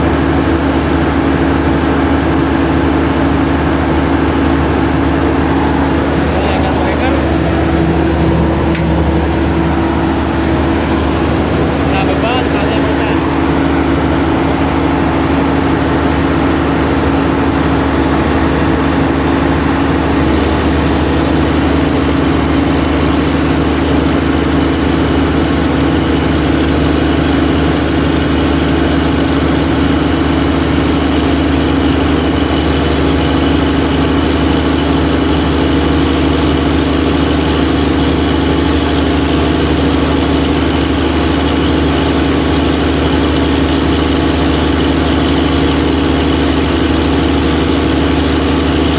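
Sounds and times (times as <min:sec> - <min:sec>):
diesel generator running: 0:00.0 - 0:48.9.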